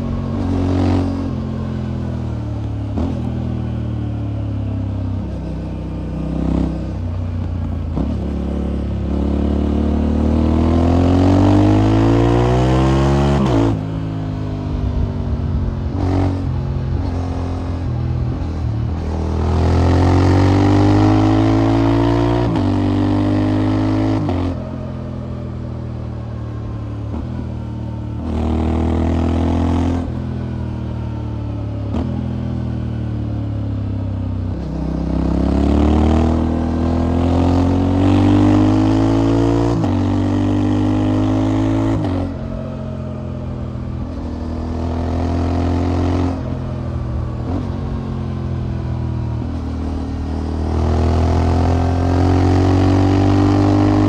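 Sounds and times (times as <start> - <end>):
motorcycle accelerating through gears: 0.0 - 54.0.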